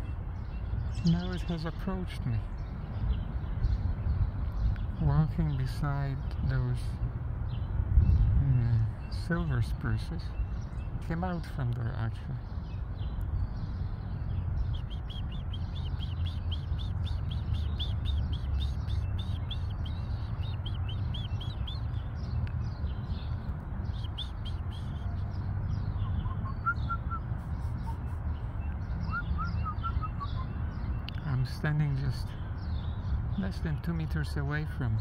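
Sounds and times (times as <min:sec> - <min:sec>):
songbirds chirping: 0:00.0 - 0:35.0
steady low rumble: 0:00.0 - 0:35.0.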